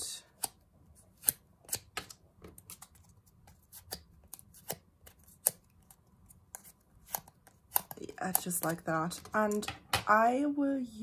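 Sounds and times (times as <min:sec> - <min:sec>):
card clicking and scraping: 0:00.4 - 0:09.6.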